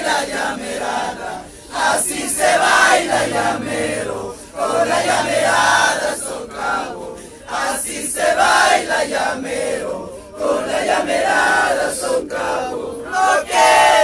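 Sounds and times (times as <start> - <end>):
crowd chanting: 0.0 - 14.0.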